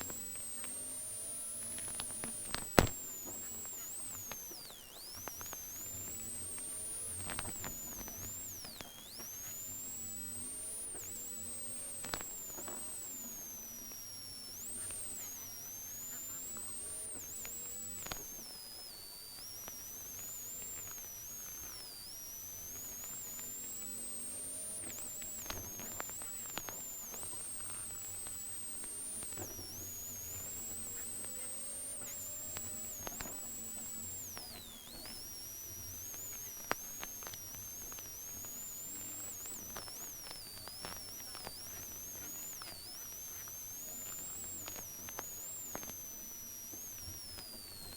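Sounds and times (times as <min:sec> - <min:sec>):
high-pitched whine with revs: 0:00.0 - 0:47.9
scattered clicks: 0:00.0 - 0:47.9.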